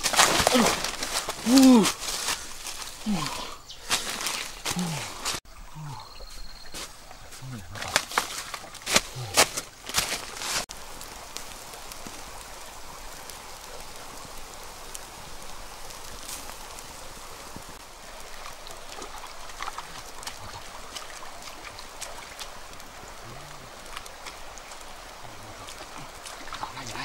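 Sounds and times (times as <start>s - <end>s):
campfire crackling: 0.0s - 6.0s, 6.7s - 27.0s
small stream running: 0.0s - 27.0s.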